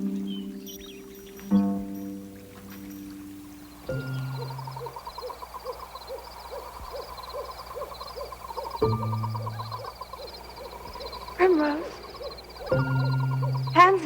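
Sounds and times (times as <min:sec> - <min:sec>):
night creatures chirping: 0:00.0 - 0:14.0
owl hooting: 0:00.0 - 0:14.0.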